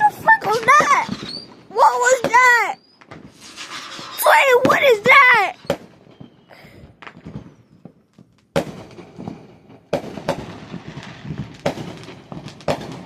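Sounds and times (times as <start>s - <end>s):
faint fireworks pops: 0.0s - 13.0s
fireworks bangs: 0.0s - 13.0s
fireworks crackling: 0.0s - 13.0s.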